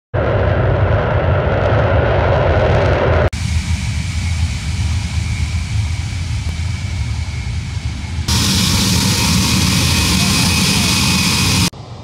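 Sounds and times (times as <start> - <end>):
jet engines rumbling: 0.1 - 12.0.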